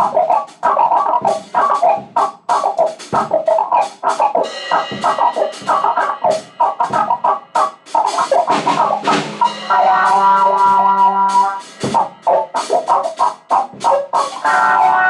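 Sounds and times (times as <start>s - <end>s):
fast drum-like hits: 0.0s - 15.0s
wah-filtered midrange tone: 0.0s - 15.0s.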